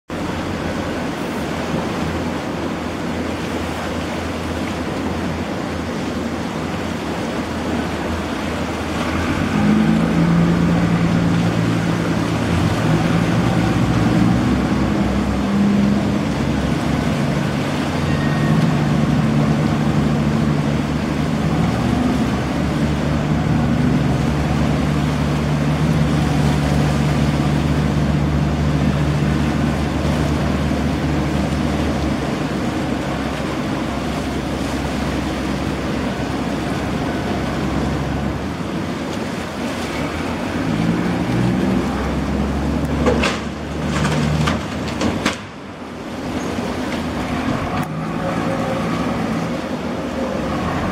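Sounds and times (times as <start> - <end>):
ferry engine running: 0.1 - 50.9
propeller wash churning water: 0.1 - 50.9.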